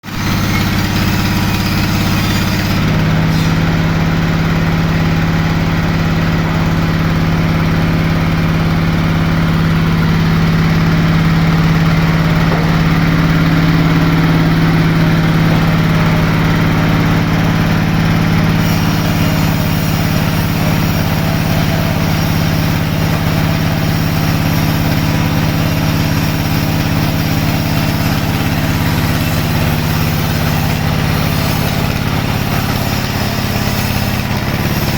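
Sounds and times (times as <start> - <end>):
sawmill machinery humming: 0.0 - 34.9.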